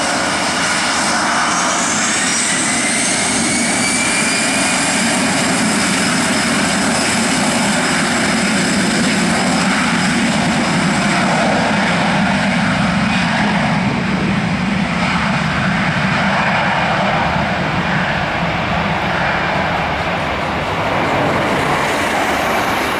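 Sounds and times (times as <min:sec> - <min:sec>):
jet engines high-pitched whine: 0:00.0 - 0:22.9.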